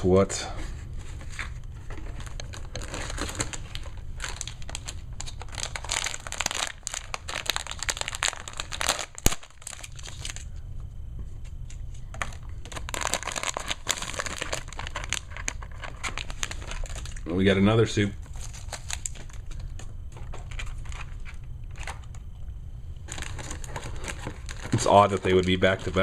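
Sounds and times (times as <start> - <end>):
foil pack crinkling and tearing: 1.3 - 10.5, 11.6 - 17.6, 18.2 - 22.1, 23.0 - 26.0.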